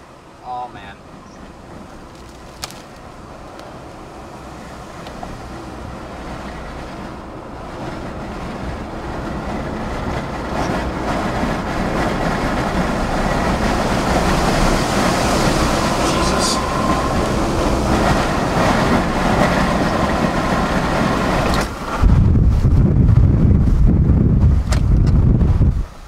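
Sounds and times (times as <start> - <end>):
tyre and road noise: 0.0 - 26.0
wind rushing around car: 0.0 - 26.0.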